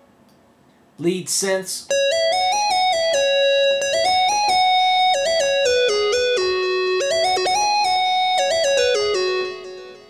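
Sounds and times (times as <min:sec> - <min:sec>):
synth lead melody: 0:01.9 - 0:10.0.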